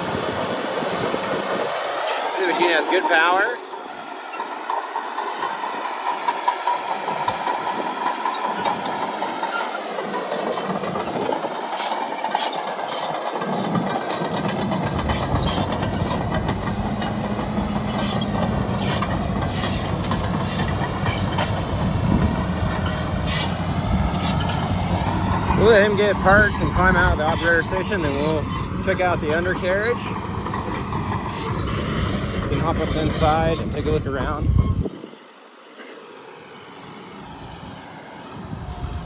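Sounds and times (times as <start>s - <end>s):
bulldozer tracks clanking: 0.0s - 39.0s
diesel engine deep rumble: 0.0s - 39.0s.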